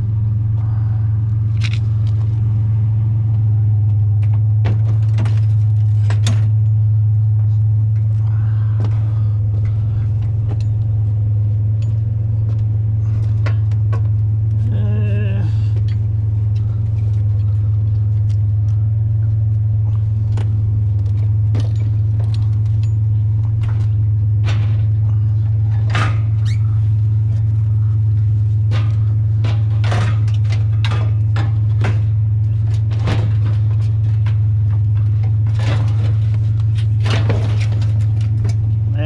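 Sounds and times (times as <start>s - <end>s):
truck engine idling: 0.0s - 39.0s
scrap metal clanking: 4.1s - 14.8s, 15.4s - 39.0s.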